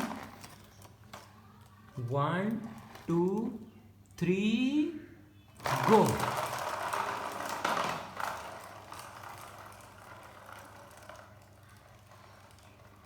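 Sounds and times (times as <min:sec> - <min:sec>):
wheels clattering: 0:00.0 - 0:03.2, 0:05.5 - 0:13.0
toy car motors whirring: 0:00.0 - 0:03.5, 0:05.6 - 0:13.0.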